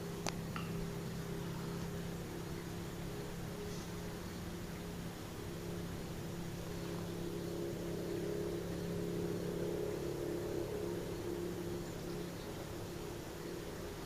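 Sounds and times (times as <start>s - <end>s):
distant motor hum: 0.0s - 14.0s.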